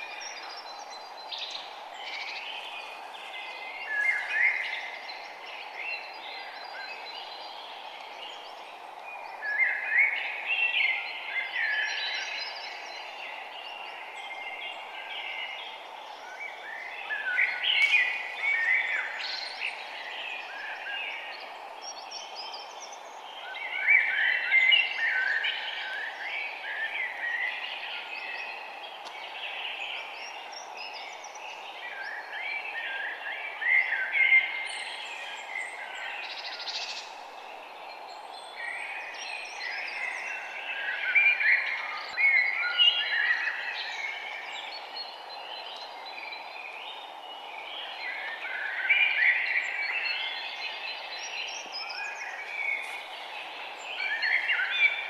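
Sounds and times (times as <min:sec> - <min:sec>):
birds singing and chirping: 0:00.0 - 0:55.0
steady background hiss: 0:00.0 - 0:55.0.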